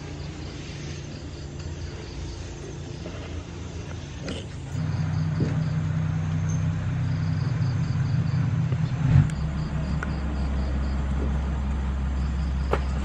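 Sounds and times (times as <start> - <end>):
crickets chirping: 0.0 - 13.0
low motor hum: 0.0 - 13.0.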